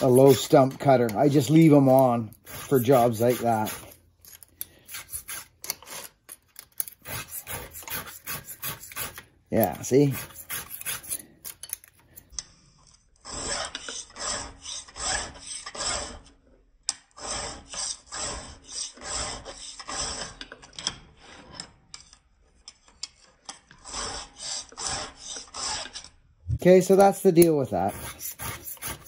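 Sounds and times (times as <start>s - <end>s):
file rasping on chainsaw chain: 0.0s - 6.2s, 6.9s - 11.6s, 13.2s - 16.4s, 17.0s - 21.8s, 23.5s - 26.2s, 26.9s - 29.0s.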